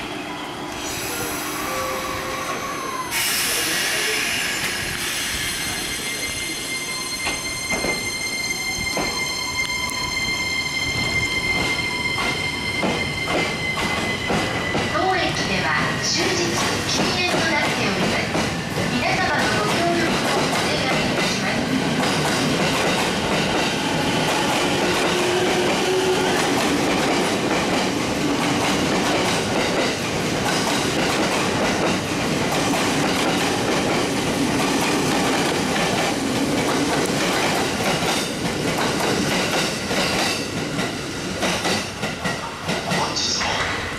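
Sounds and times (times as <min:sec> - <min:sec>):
electric train rumbling past: 0:00.0 - 0:43.9.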